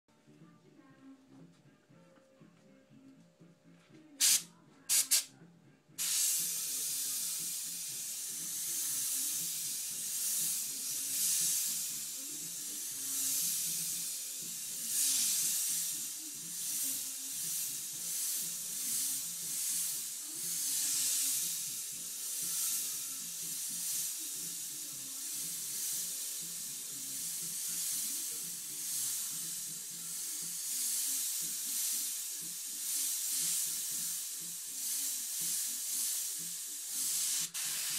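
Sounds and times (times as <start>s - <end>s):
airbrush hissing: 4.2s - 5.3s, 6.0s - 37.9s.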